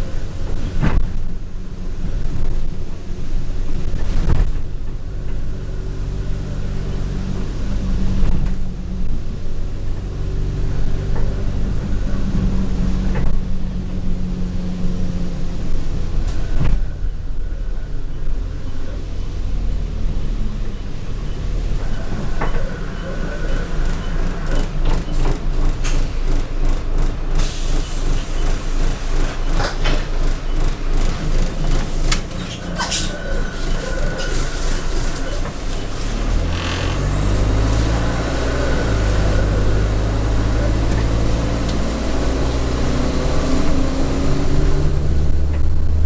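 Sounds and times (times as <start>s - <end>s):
bus body rattling: 0.0s - 46.0s
bus diesel engine: 0.0s - 46.0s.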